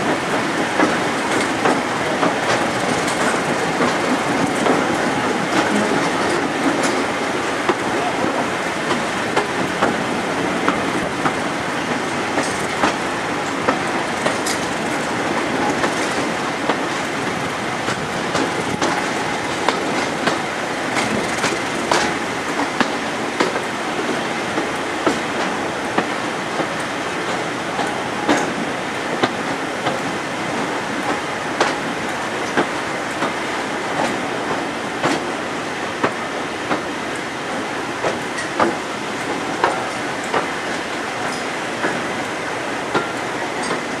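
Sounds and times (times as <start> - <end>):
wheels clicking over rail joints: 0.0 - 35.3, 38.0 - 44.0
diesel locomotive running: 0.0 - 44.0.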